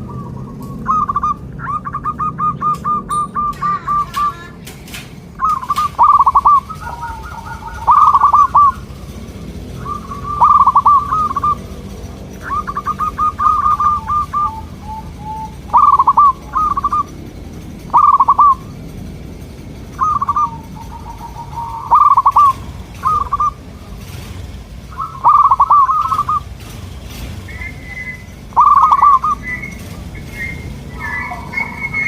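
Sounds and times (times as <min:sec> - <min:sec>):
high bird chirping: 0:00.0 - 0:04.7, 0:05.3 - 0:18.9, 0:19.8 - 0:32.0
doves cooing: 0:00.0 - 0:32.0.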